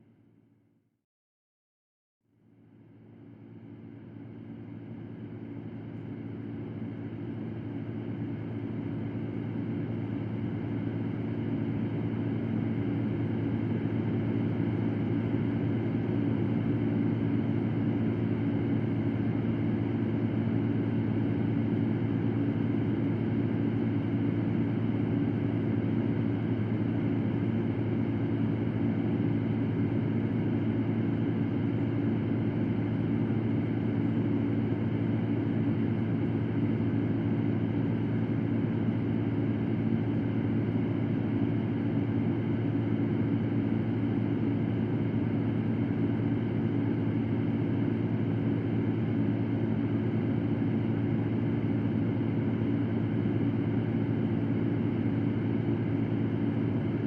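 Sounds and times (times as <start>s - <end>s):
electric fan running: 4.4s - 57.0s.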